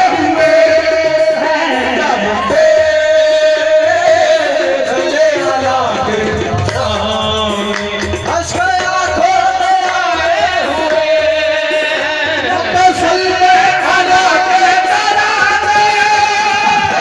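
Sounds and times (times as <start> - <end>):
instrumental accompaniment: 0.0 - 17.0
low drum beat: 0.0 - 17.0
person singing ornamented notes: 0.0 - 17.0.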